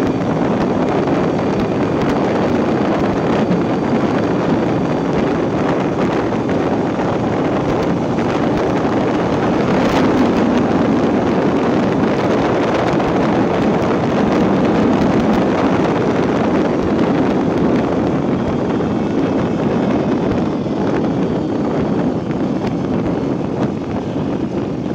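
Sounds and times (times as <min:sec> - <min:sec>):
scooter engine: 0:00.0 - 0:24.9
wind rush on microphone: 0:00.0 - 0:24.9.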